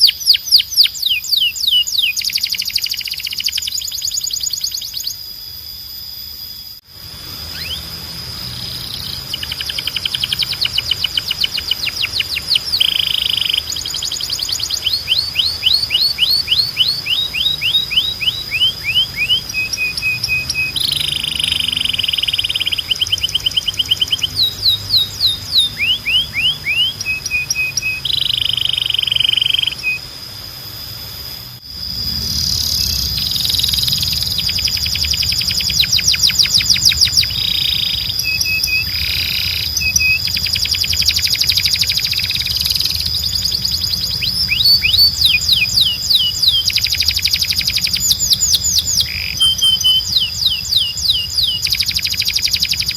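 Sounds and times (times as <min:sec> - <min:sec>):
canary singing: 0:00.0 - 0:05.3, 0:07.3 - 0:30.2, 0:31.6 - 0:52.9
high whistle-like tone: 0:00.0 - 0:52.9
low hum: 0:06.1 - 0:52.9.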